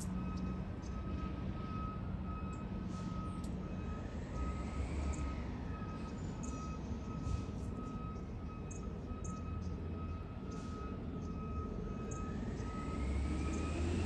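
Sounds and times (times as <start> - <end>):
reversing alarm beeping: 0.0 - 14.0
truck engine rumbling: 0.0 - 14.0.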